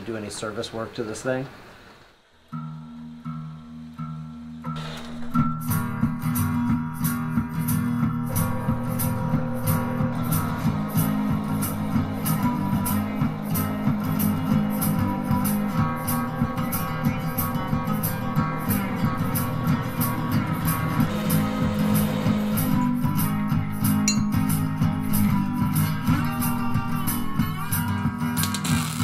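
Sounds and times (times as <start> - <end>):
guitar-led music with beat: 2.5 - 29.0.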